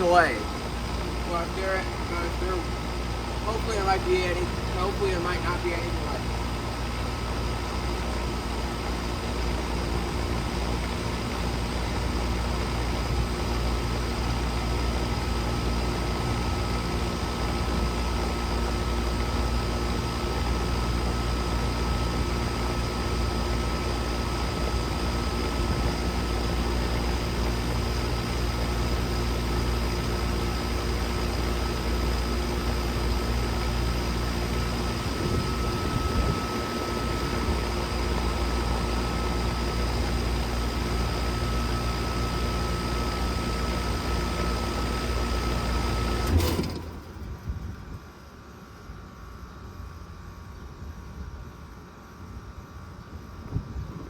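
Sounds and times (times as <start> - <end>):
condenser fan whoosh: 0.0 - 50.3
compressor hum: 0.0 - 54.0.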